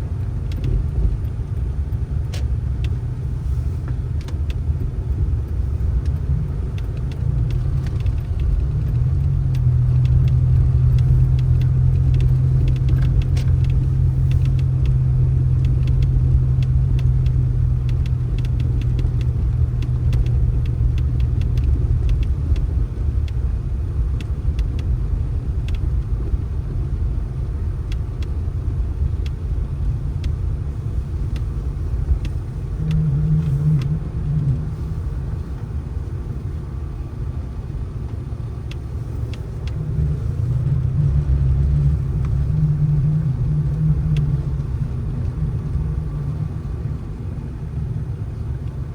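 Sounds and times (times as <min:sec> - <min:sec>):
motor vehicle rumble: 0:00.0 - 0:48.9
faint scattered clicks: 0:00.1 - 0:03.2, 0:03.8 - 0:34.6, 0:37.6 - 0:47.2
steady low drone: 0:02.7 - 0:48.9.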